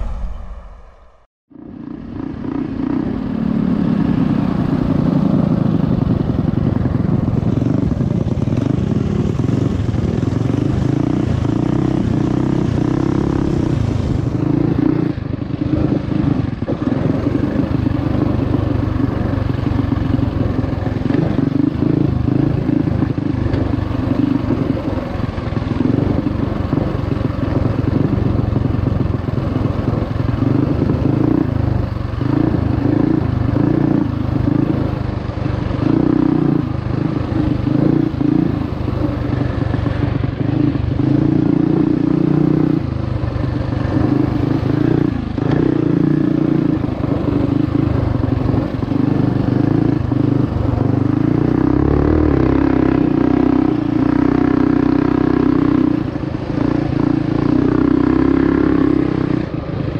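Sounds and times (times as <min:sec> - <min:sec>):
mini bike engine running: 0:01.8 - 0:59.9.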